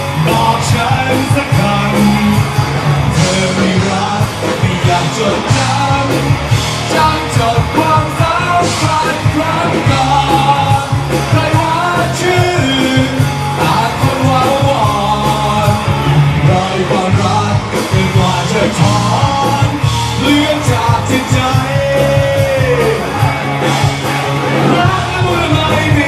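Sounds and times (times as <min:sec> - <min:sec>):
man singing loudly: 0:00.0 - 0:23.7, 0:24.5 - 0:26.0
drums: 0:00.0 - 0:26.0
rock band playing live: 0:00.0 - 0:26.0.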